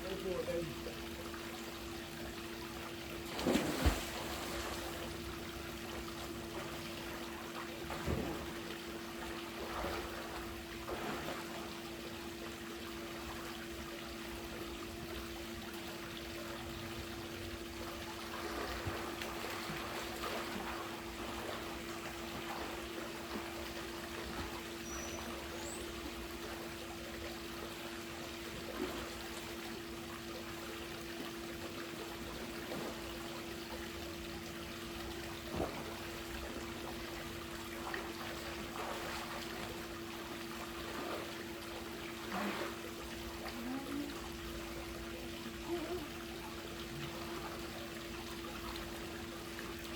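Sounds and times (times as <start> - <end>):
small water splashes: 0.0 - 12.4, 17.6 - 49.9
pool water trickling and lapping: 0.0 - 49.9
steady low hum: 0.0 - 49.9.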